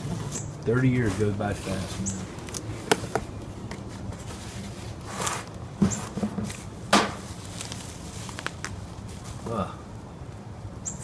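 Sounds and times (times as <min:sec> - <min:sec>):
cardboard rustling and scraping: 0:00.0 - 0:09.5.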